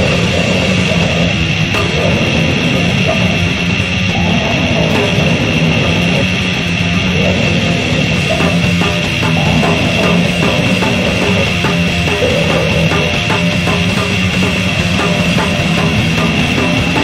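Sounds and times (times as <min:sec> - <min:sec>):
distorted guitar riffing: 0:00.0 - 0:17.0
drums: 0:00.0 - 0:17.0.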